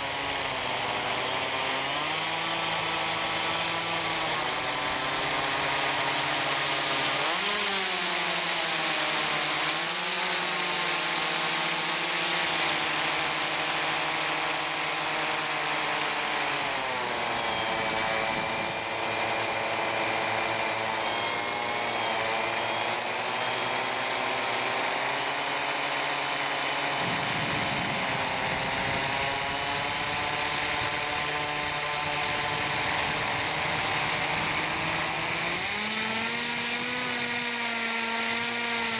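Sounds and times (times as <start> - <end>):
propeller motors whining: 0.0 - 38.9.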